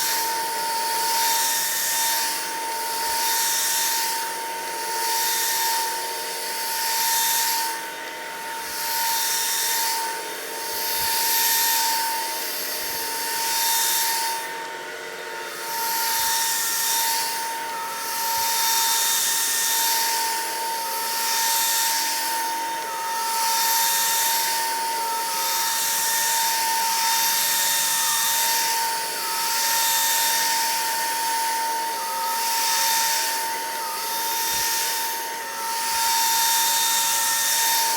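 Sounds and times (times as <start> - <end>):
vacuum motor whine: 0.0 - 37.9.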